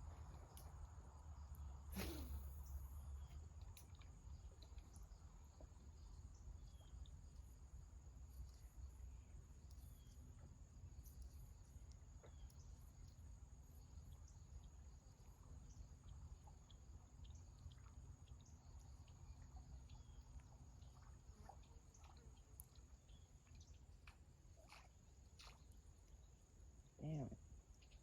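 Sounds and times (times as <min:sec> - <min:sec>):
faint ticks and chirps: 0:00.0 - 0:28.0.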